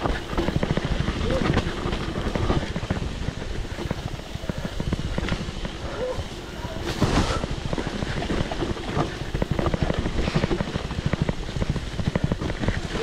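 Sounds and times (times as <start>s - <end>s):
bike rattling on rough trail: 0.0s - 13.0s
wind buffeting microphone: 0.0s - 13.0s.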